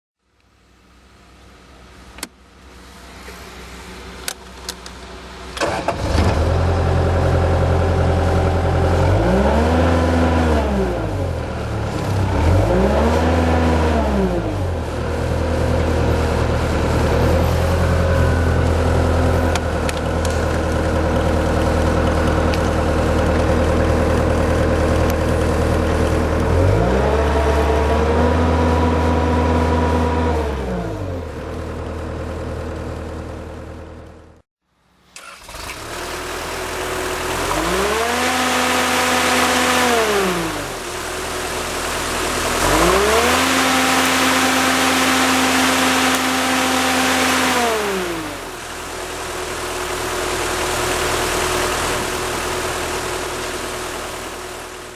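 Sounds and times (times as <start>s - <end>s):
diesel engine idling and revving: 2.2s - 34.4s, 35.2s - 54.9s.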